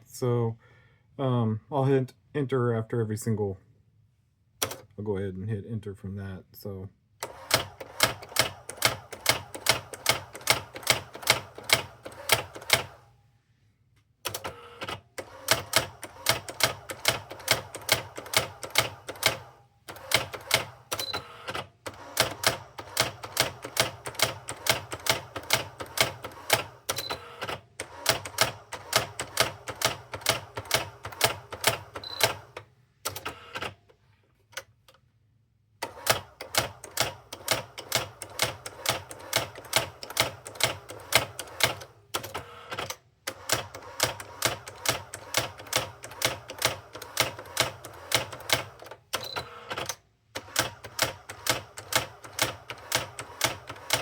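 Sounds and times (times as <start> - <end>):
electronic typewriter clicking: 7.2 - 13.0, 14.3 - 33.8, 35.8 - 54.0.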